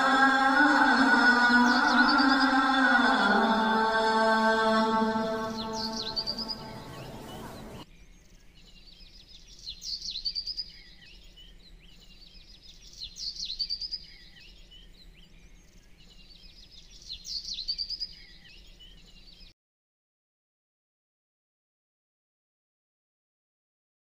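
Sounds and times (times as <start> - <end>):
songbird chirping and trilling: 0.0 - 19.6.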